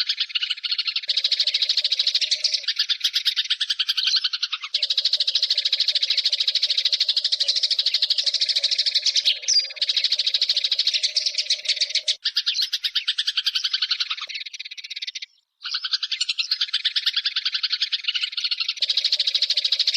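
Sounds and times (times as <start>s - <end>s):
sparrows chirping: 0.0s - 19.9s.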